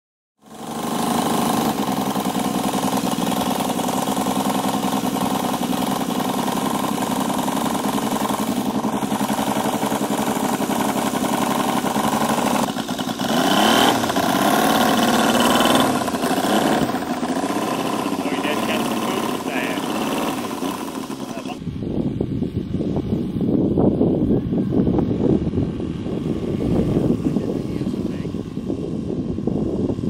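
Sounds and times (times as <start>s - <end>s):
model airplane engine running: 0.4s - 21.6s, 23.8s - 30.0s.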